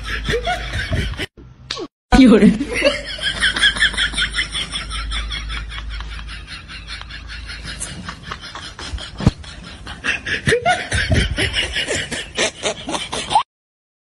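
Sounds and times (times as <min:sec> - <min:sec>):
people laughing: 0:00.0 - 0:01.3, 0:02.6 - 0:13.4.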